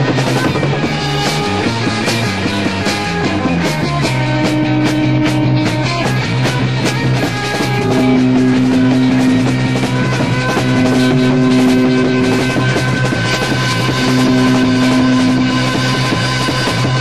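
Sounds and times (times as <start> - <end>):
psychedelic rock song: 0.0 - 17.0.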